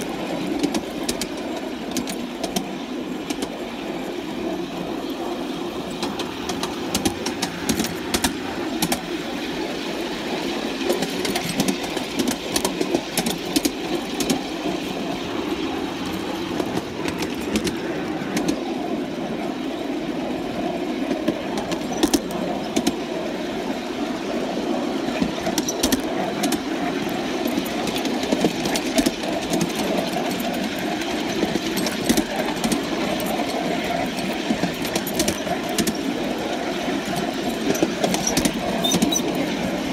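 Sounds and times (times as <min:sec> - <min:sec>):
model steam locomotive running: 0:00.0 - 0:39.9.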